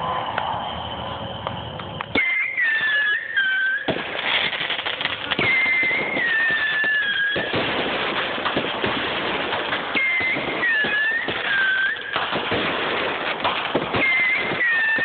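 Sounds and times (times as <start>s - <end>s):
falling firework whistle: 0.0s - 15.0s
firework bang: 0.0s - 15.0s
firework crackling: 0.0s - 15.0s.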